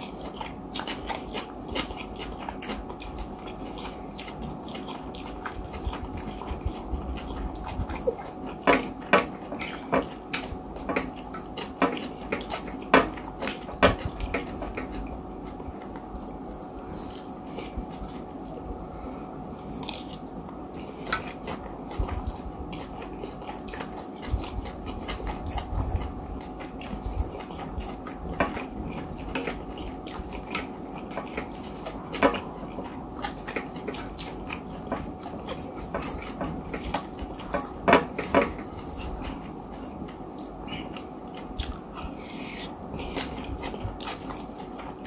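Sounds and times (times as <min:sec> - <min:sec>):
person chewing: 0:00.0 - 0:45.0.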